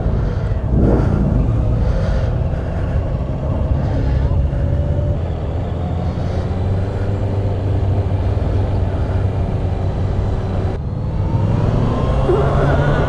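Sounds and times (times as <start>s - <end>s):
motorcycle engine running: 0.0s - 10.8s
road noise: 0.0s - 13.0s.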